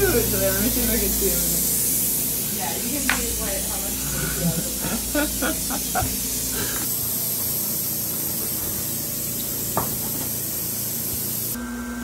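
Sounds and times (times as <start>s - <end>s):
air hissing into chamber: 0.0s - 11.6s.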